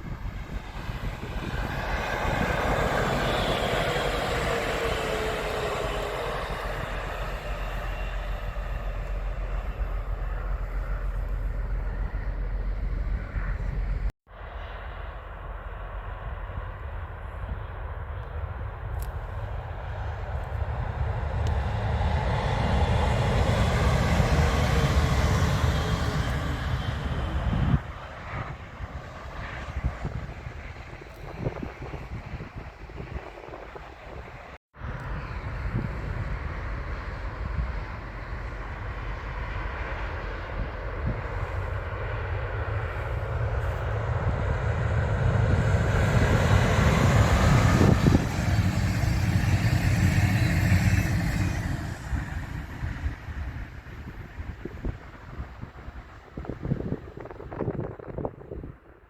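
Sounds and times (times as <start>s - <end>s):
train passing at speed: 0.0s - 59.0s.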